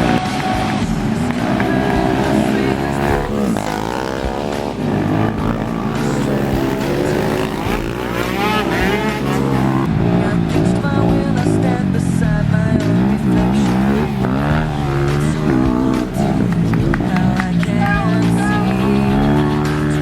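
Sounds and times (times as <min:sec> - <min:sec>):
quad bike engines revving: 0:00.0 - 0:20.0.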